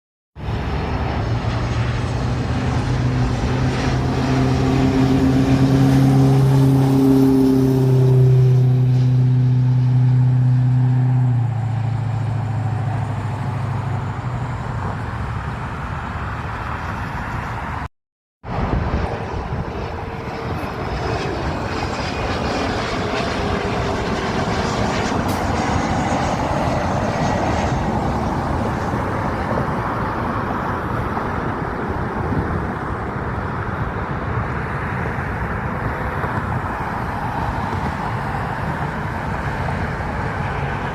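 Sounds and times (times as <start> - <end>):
aircraft engine drone: 0.4 - 40.9
steady rushing noise: 0.4 - 40.9.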